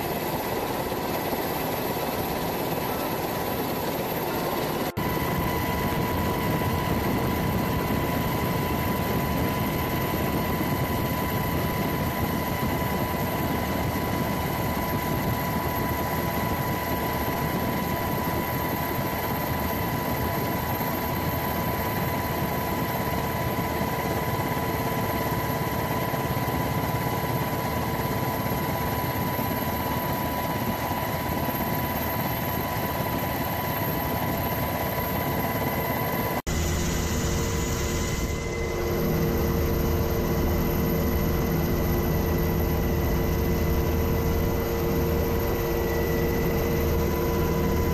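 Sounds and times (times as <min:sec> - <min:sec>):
helicopter engine and rotor: 0:00.0 - 0:47.9.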